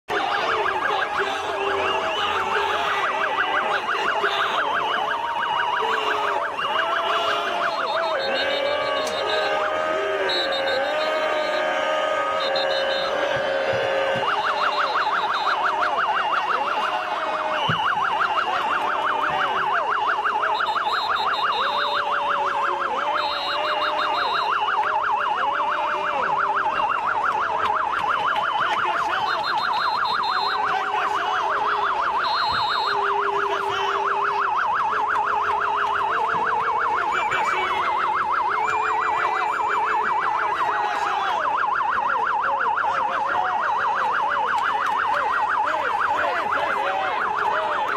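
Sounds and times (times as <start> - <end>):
police siren yelping: 0.1 - 47.9.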